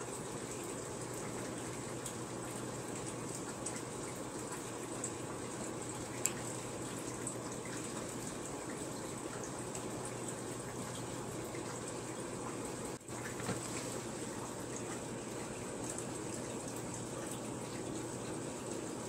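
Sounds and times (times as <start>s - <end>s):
water trickling from aquarium filter: 0.0s - 19.0s.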